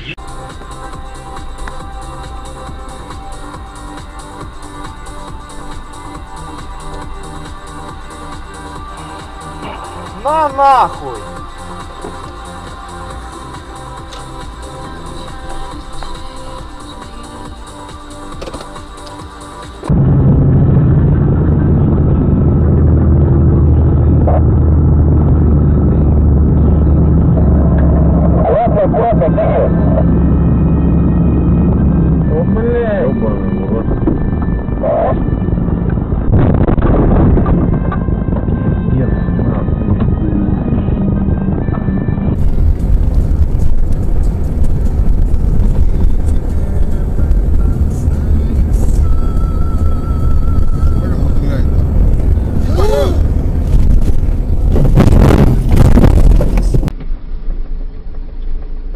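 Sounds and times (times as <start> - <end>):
vehicle engine and road noise: 0.0 - 58.9.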